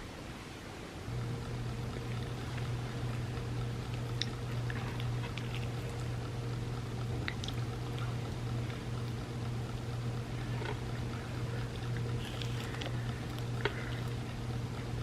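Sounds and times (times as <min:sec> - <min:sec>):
steady low hum: 0:00.0 - 0:15.0
wet chewing and eating: 0:01.7 - 0:15.0.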